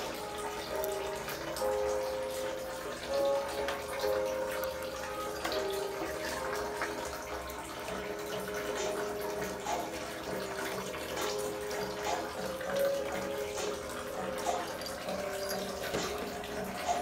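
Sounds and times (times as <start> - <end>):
quiet background music: 0.0 - 17.0
water running and splashing: 0.0 - 17.0.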